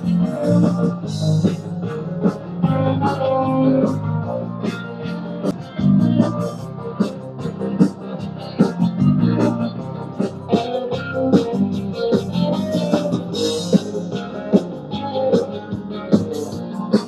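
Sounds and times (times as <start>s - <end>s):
instrumental music with guitar: 0.0s - 17.0s.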